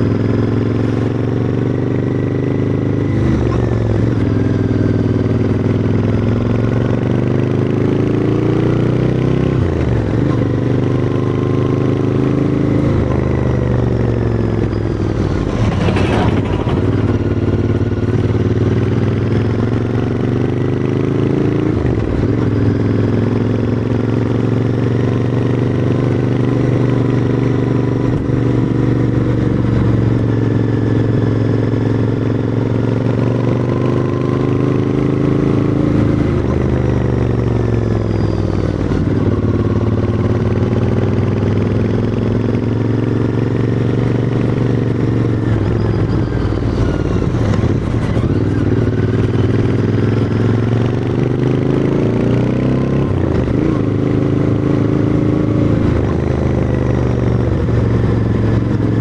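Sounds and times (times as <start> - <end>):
motorcycle engine pulling uphill: 0.0 - 59.0.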